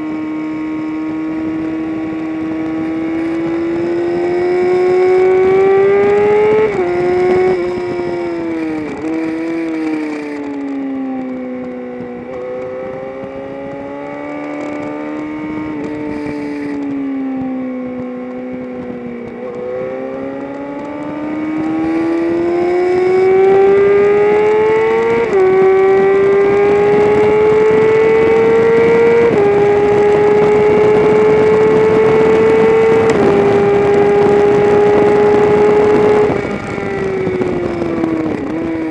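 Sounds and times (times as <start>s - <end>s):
race car engine: 0.0s - 38.9s
gear upshifts: 0.3s - 38.9s.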